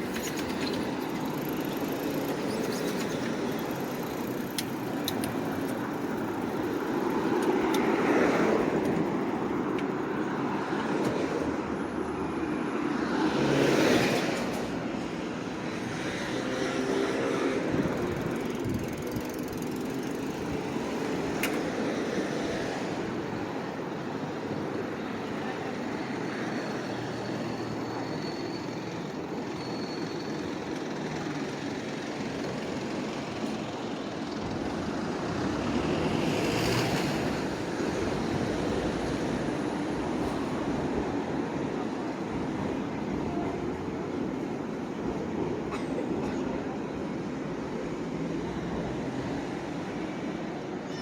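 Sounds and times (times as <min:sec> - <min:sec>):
hum of passing vehicles: 0:00.0 - 0:28.1, 0:30.3 - 0:50.8.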